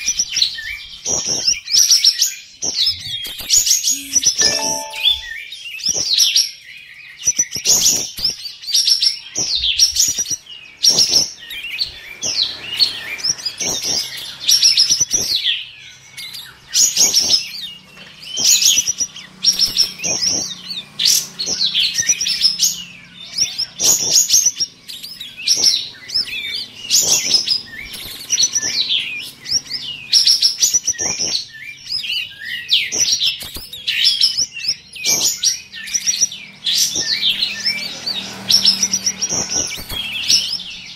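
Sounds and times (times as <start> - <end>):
songbirds chirping and whistling: 0.0 - 40.9.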